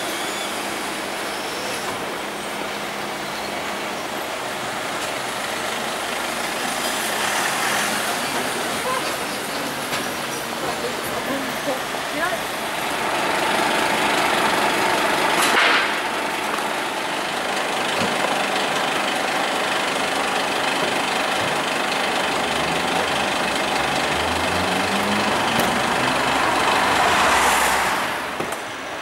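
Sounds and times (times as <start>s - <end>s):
diesel engine running: 0.0s - 29.0s
street noise hiss: 0.0s - 29.0s.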